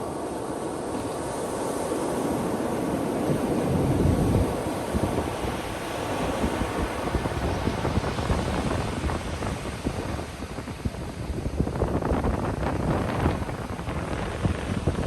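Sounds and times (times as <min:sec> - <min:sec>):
ocean waves breaking: 0:00.2 - 0:15.0.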